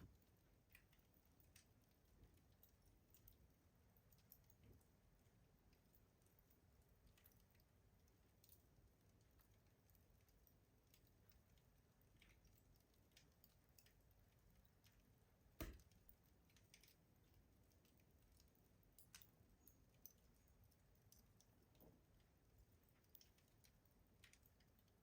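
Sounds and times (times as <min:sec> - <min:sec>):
wood fire crackling faintly: 0:00.0 - 0:25.0.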